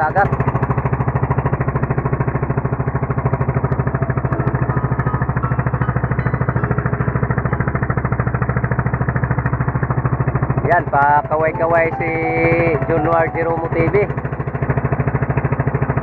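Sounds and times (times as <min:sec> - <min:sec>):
small boat engine running: 0:00.0 - 0:16.0.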